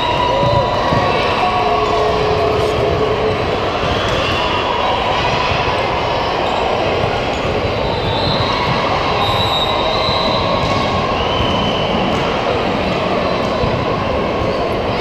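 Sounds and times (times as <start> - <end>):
many voices in reverberant hall: 0.0 - 15.0.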